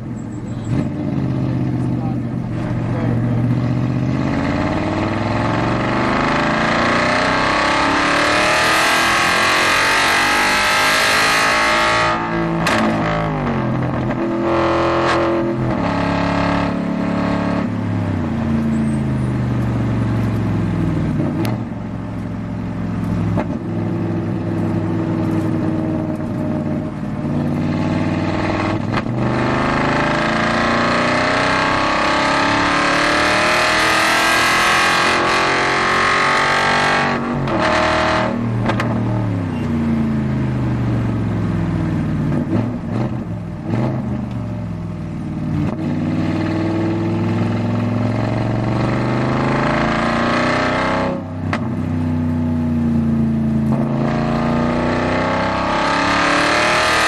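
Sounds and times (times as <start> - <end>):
race car engine revving: 0.6 - 21.8, 23.0 - 40.0, 45.6 - 51.9, 53.6 - 57.0.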